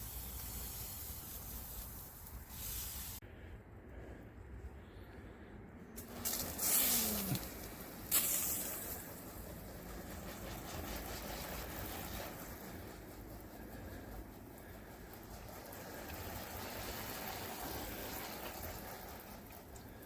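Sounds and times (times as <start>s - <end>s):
garden sprayer hissing: 0.0s - 3.2s, 6.0s - 20.0s.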